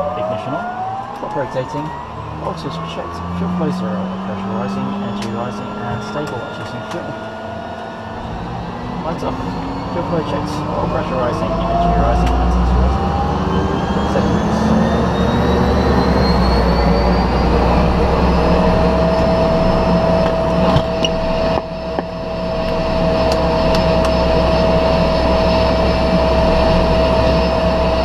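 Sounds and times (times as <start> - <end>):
low engine drone: 0.0 - 28.0
turboprop engine whine: 0.0 - 28.0.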